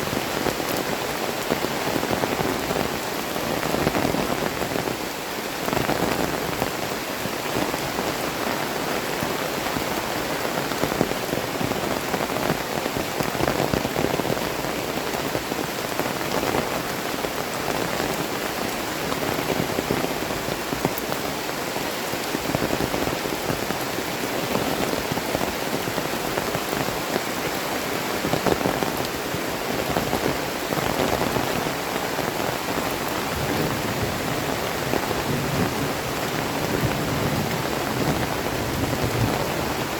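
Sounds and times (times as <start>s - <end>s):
heavy rain pouring: 0.0s - 39.9s
raindrops pattering: 0.0s - 39.9s.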